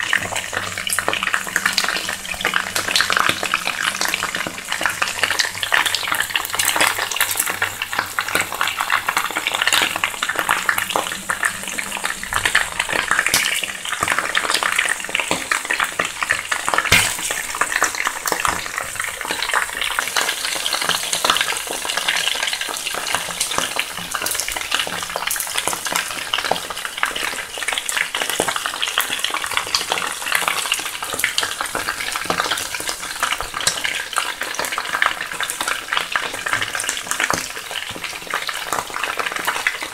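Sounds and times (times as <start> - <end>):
chicken sizzling in oil: 0.0 - 39.9.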